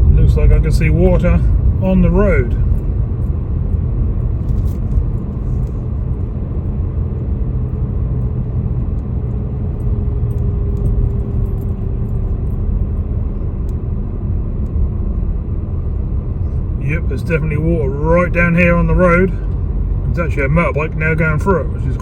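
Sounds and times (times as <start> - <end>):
faint engine hum: 0.0 - 22.0
road noise inside car: 0.0 - 22.0.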